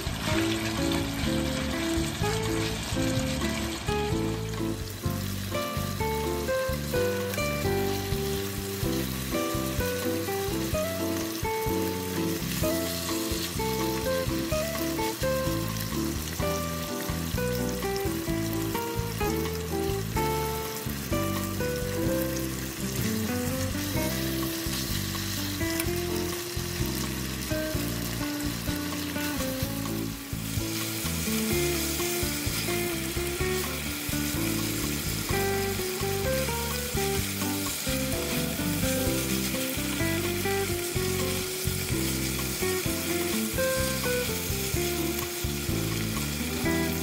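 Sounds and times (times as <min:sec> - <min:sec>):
background music: 0:00.0 - 0:47.0
meat sizzling in hot oil: 0:00.0 - 0:47.0.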